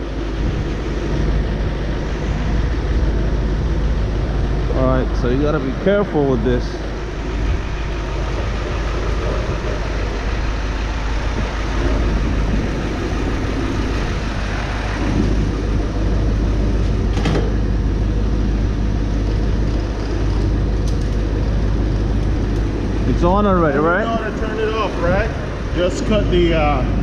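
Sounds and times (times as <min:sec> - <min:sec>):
heater burner and fan drone: 0:00.0 - 0:27.0.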